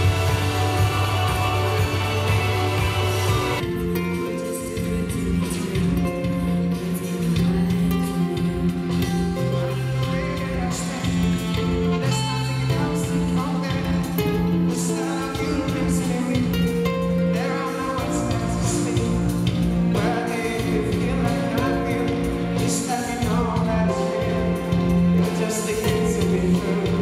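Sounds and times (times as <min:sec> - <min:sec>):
drums and cymbals: 0:00.0 - 0:27.0
live band playing: 0:00.0 - 0:27.0
man singing into a microphone: 0:04.2 - 0:27.0.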